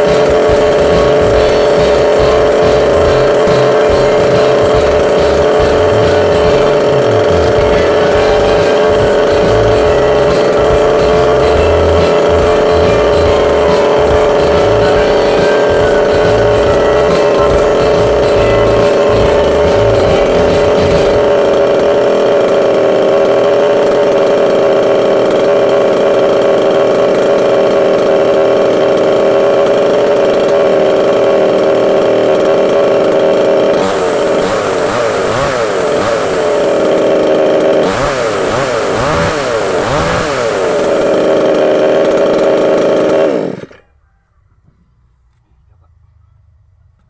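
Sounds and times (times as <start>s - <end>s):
chainsaw running at high revs: 0.0s - 43.8s.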